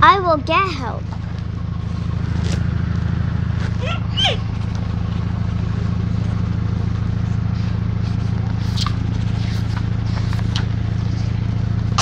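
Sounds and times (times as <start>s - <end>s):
air-pulse generator pulsing hum: 0.0s - 12.0s.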